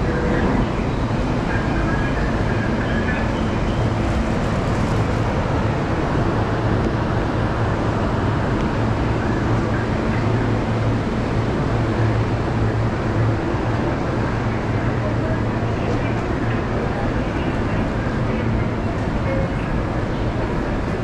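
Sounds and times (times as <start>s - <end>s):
constant low hum: 0.0s - 21.0s
railway station ambience: 0.0s - 21.0s.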